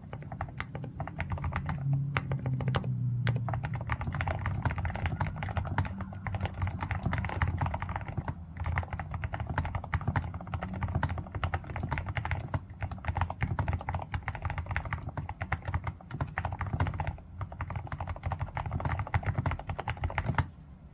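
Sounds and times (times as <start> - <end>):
mechanical keyboard typing: 0.0 - 20.5.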